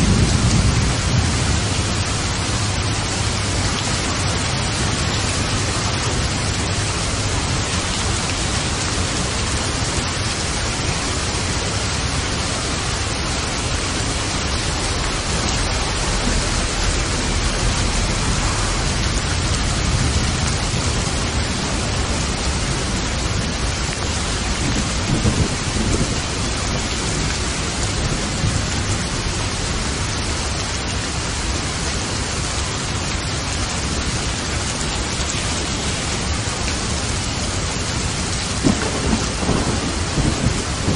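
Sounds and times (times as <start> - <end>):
thunder rumbling: 0.0 - 30.6, 36.2 - 40.9
heavy rain falling: 0.0 - 40.9.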